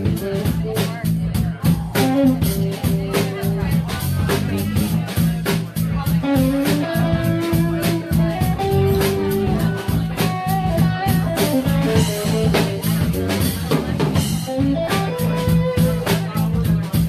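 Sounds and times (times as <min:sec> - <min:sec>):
drum strokes: 0:00.0 - 0:17.0
jazz band playing: 0:00.0 - 0:17.0
electric guitar: 0:01.7 - 0:05.2, 0:06.0 - 0:17.0.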